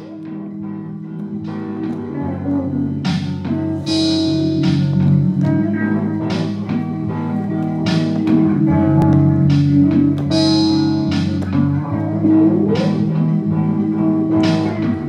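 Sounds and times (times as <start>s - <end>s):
guitar chords strummed: 0.0s - 15.0s
low bass part: 0.0s - 15.0s.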